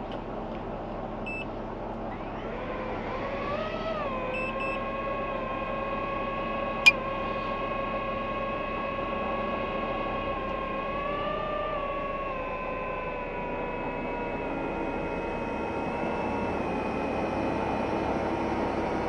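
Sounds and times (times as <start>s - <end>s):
drone motors whining: 2.0s - 19.0s.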